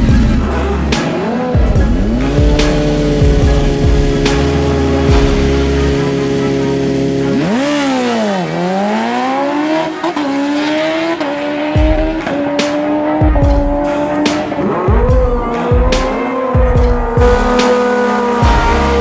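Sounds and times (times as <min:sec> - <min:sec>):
motorcycle engines revving: 0:00.0 - 0:19.0
motorcycles accelerating through gears: 0:00.0 - 0:19.0.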